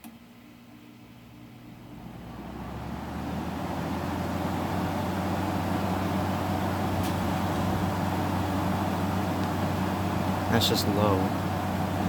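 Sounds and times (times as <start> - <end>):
air conditioner fan running: 0.0 - 12.0.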